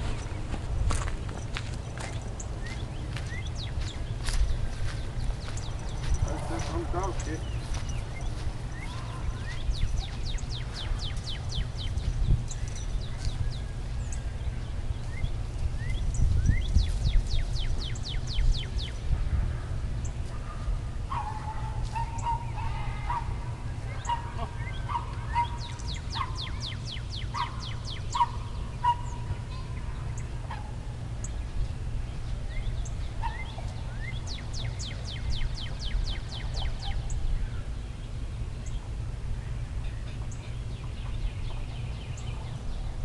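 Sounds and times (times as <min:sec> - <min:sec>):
songbirds singing: 0:00.0 - 0:43.0
wind rumble on microphone: 0:00.0 - 0:43.0.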